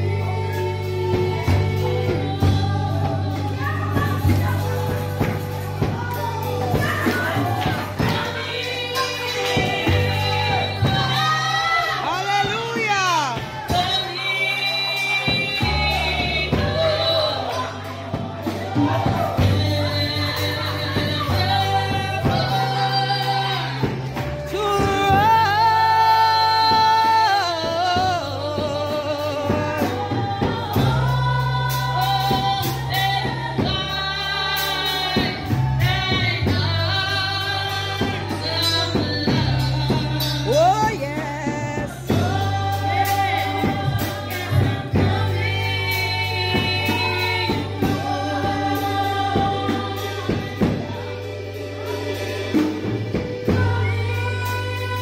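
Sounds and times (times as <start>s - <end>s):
keyboard bass notes: 0.0s - 55.0s
women singing gospel: 0.0s - 55.0s.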